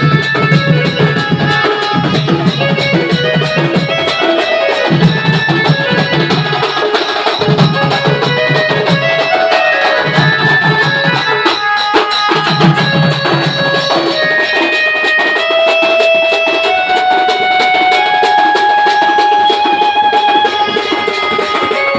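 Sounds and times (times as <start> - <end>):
fast dense drumming: 0.0 - 21.9
melody of long held notes: 0.0 - 21.9.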